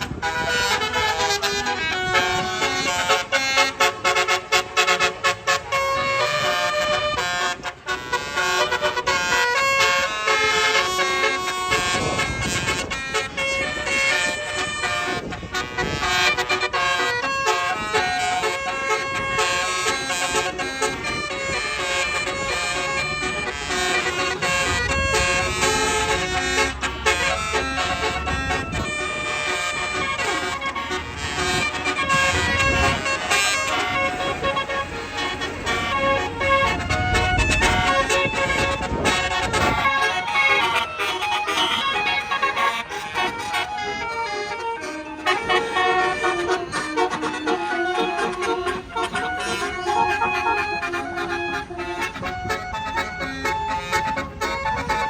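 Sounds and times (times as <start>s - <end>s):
musical bus horn melody: 0.0s - 55.0s.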